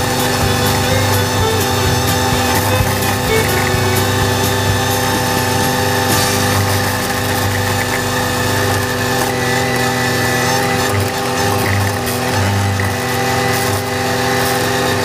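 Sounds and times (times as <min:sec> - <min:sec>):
flail mower cutting grass: 0:00.0 - 0:15.0
tractor diesel engine running: 0:00.0 - 0:15.0.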